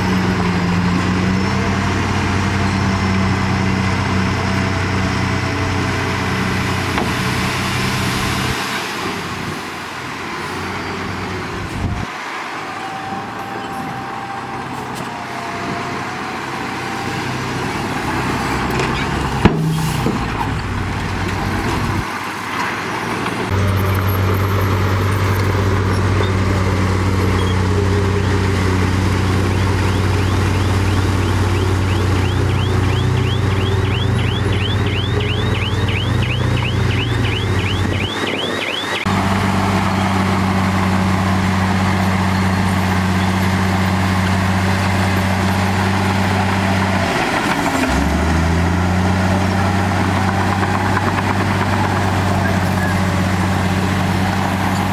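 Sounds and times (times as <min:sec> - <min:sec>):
heavy machine diesel engines: 0:00.0 - 0:54.9.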